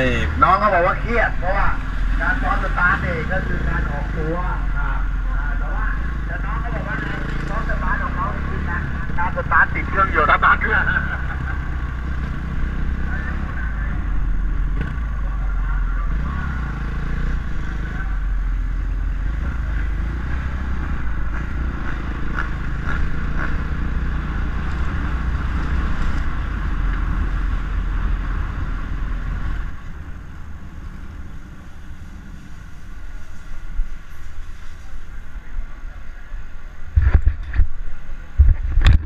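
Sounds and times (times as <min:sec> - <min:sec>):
motorcycle engine at low revs: 0:00.0 - 0:33.2.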